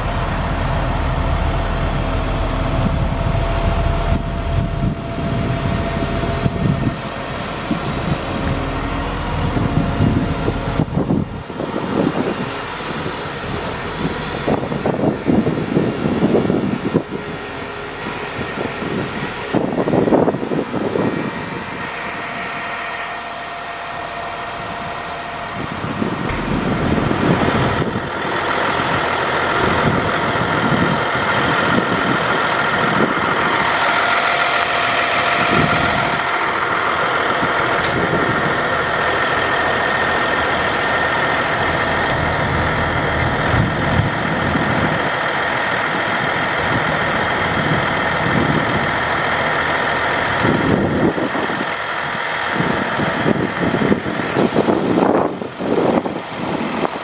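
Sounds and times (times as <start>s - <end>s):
steady whine: 0.0s - 57.0s
truck engine running: 0.0s - 57.0s.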